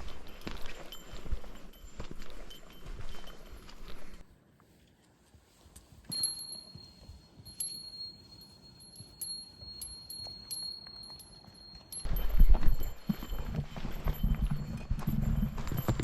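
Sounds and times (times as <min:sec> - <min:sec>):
small metal bell jingling: 0:00.0 - 0:04.2, 0:06.1 - 0:16.0.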